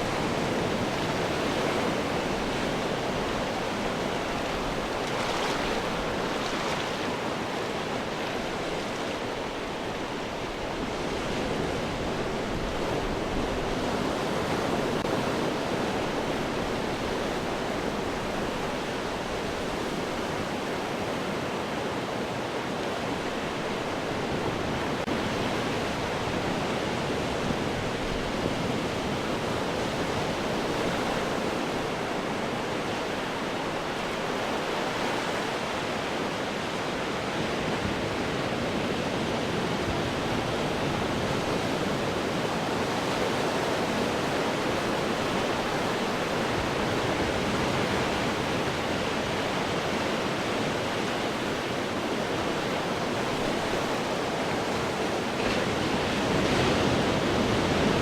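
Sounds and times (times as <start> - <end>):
ocean surf breaking on rocks: 0.0 - 58.0.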